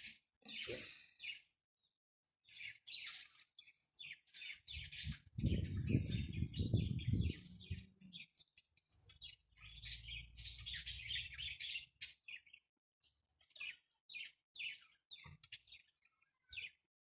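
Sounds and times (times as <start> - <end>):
parrots chirping and chattering: 0.0 - 1.5, 2.4 - 16.8.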